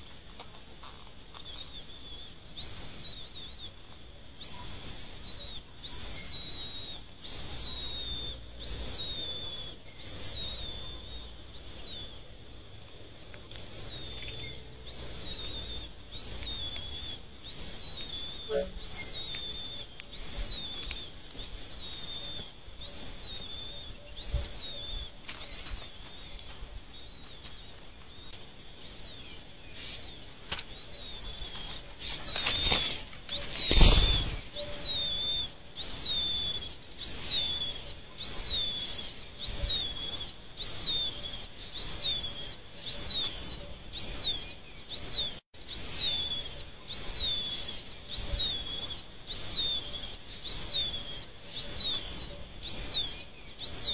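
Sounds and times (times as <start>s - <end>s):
nestlings begging calls: 0.8s - 53.9s.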